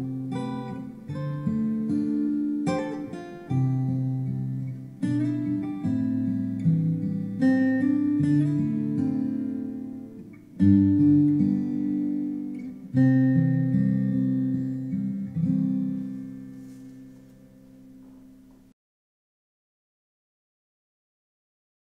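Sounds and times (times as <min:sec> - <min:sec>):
acoustic guitar strumming: 0:00.0 - 0:18.7.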